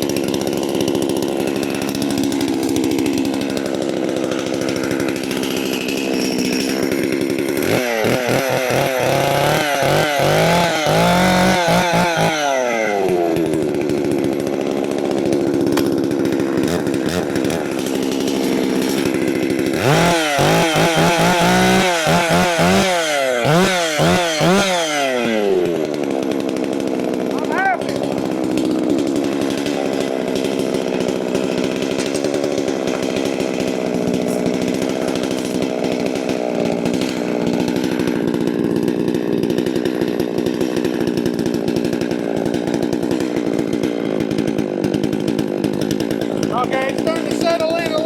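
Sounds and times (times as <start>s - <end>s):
chainsaw engine idling and revving: 0.0s - 48.0s.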